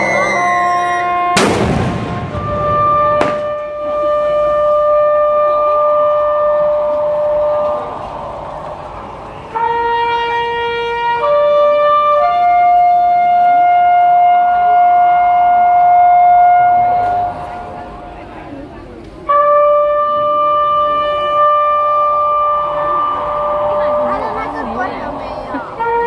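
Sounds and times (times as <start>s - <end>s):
horn-like held notes: 0.0s - 18.2s, 19.2s - 26.0s.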